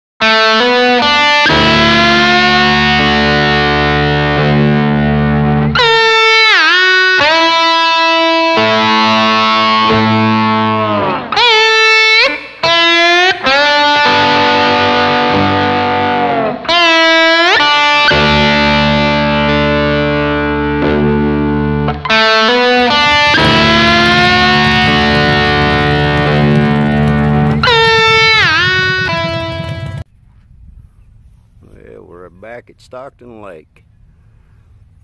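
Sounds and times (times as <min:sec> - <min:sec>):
distorted electric guitar: 0:00.2 - 0:30.0.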